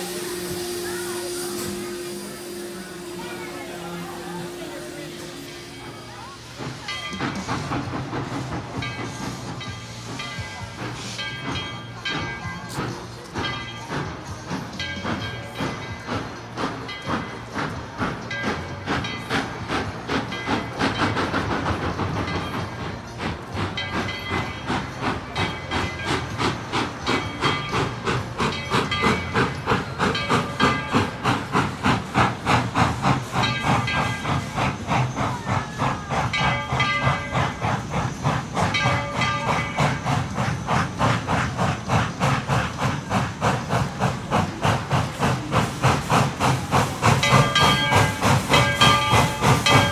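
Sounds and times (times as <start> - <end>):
steam hissing: 0.0 - 49.9
steam locomotive chuffing: 0.0 - 49.9.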